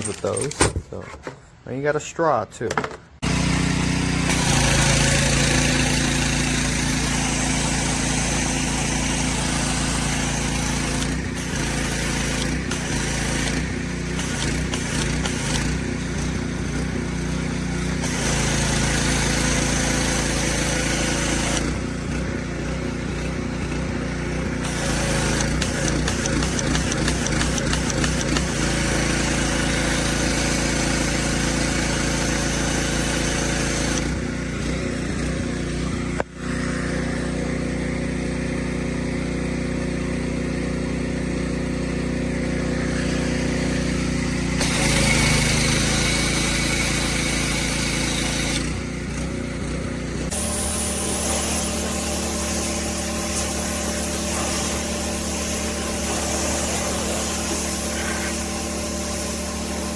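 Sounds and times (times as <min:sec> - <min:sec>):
pressure washer humming: 0:02.8 - 0:59.9.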